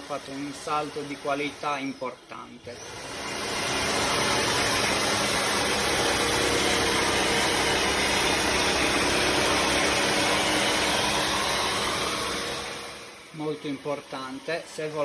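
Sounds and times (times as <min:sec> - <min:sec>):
vacuum motor humming: 0:00.0 - 0:15.0.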